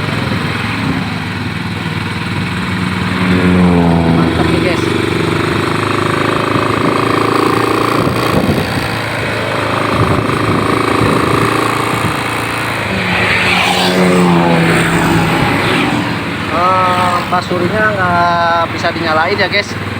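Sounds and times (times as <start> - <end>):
engine whine: 0.0 - 19.9
vehicle engine droning: 0.0 - 19.9.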